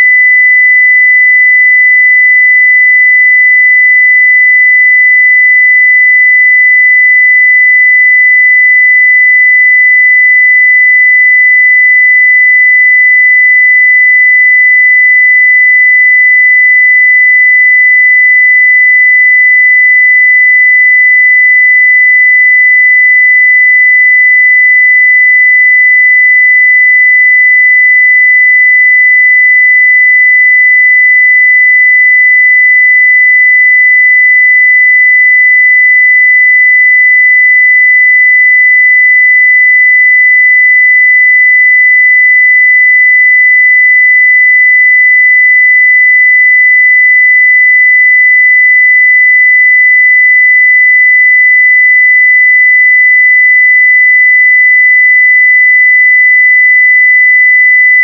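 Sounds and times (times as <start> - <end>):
sine wave test tone: 0.0 - 58.0.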